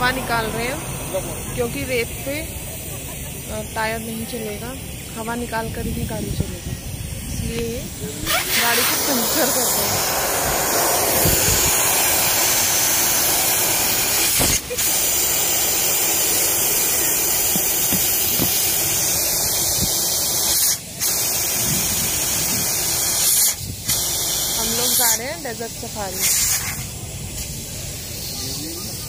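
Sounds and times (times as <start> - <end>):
air hissing out of tyre: 0.0 - 29.0.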